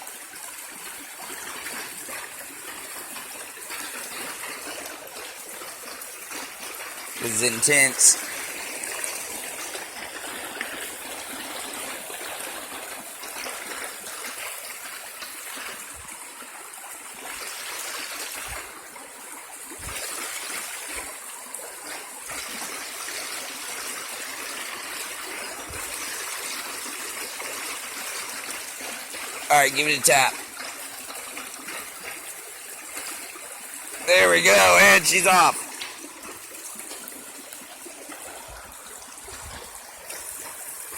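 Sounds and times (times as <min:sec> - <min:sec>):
stream trickling and gurgling: 0:00.0 - 0:40.9.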